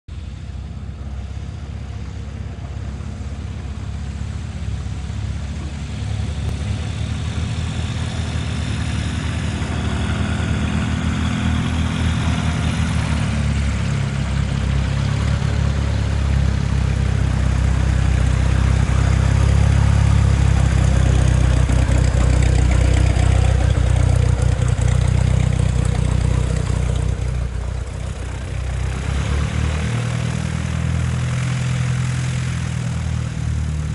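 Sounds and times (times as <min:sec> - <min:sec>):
light aircraft propeller engine: 0:00.1 - 0:33.9.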